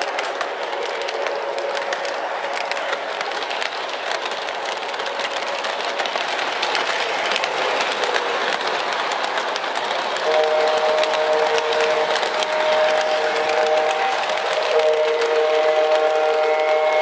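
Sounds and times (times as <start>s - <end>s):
toy train rolling on track: 0.0s - 17.0s
wheels clicking over track: 0.0s - 17.0s.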